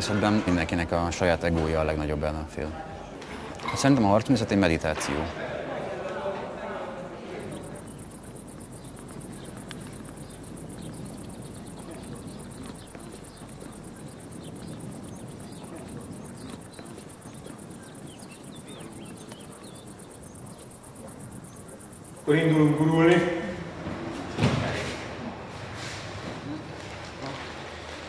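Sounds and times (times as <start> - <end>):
crickets chirping: 0.0 - 28.0
low ambient murmur: 0.0 - 28.0.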